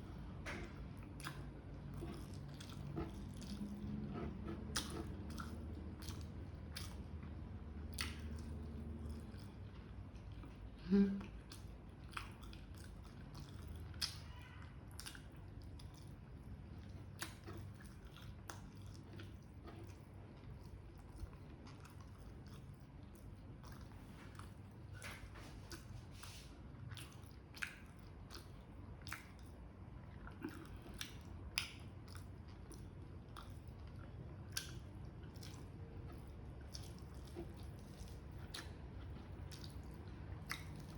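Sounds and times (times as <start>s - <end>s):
low steady hum: 0.0s - 40.9s
person chewing food: 0.0s - 40.9s.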